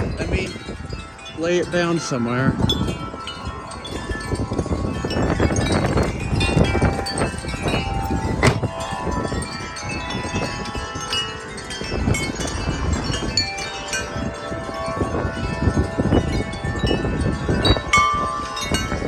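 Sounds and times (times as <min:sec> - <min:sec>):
wind buffeting microphone: 0:00.0 - 0:19.0
wind chimes clanging: 0:00.0 - 0:19.0.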